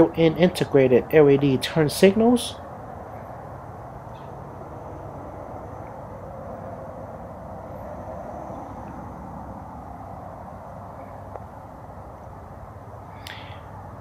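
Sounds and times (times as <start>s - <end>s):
low hum: 0.0s - 14.0s
outdoor background hiss: 0.0s - 14.0s.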